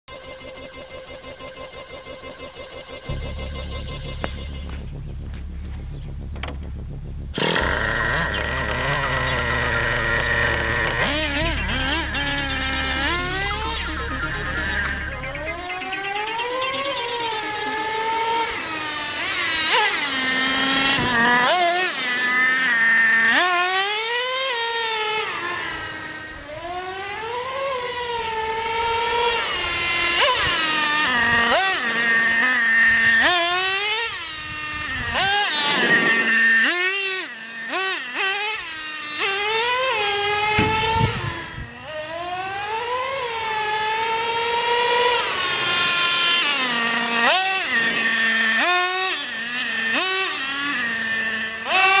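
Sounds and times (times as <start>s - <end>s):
model engine revving high-pitched: 0.1s - 52.0s.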